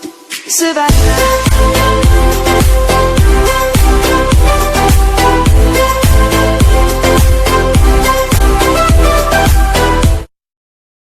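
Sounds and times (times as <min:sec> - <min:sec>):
electronic dance-pop music: 0:00.0 - 0:10.3.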